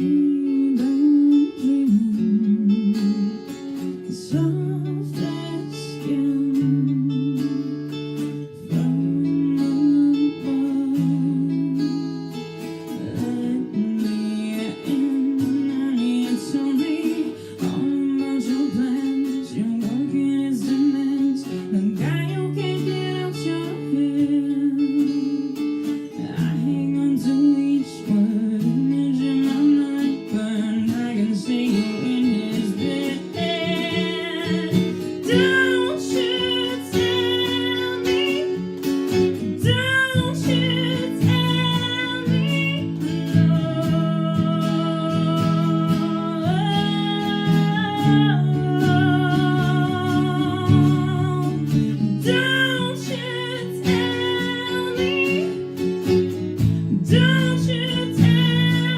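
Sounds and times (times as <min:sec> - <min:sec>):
person singing: 0:00.0 - 0:58.9
strummed guitar: 0:00.0 - 0:58.9.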